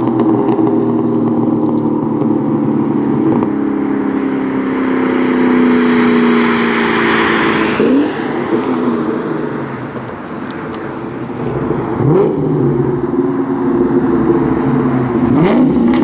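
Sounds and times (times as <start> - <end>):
car engine exhaust drone: 0.0 - 16.0.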